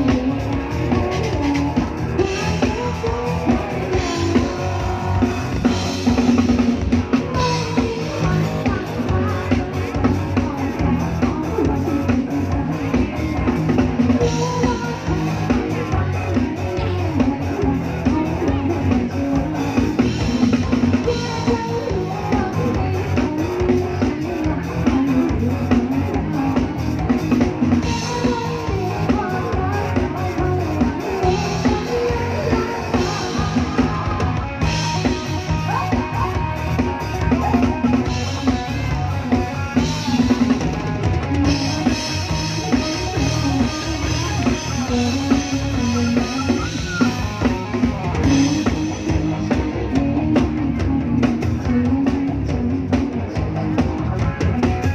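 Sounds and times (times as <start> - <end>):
drum kit beat: 0.0 - 54.9
live band playing: 0.0 - 54.9.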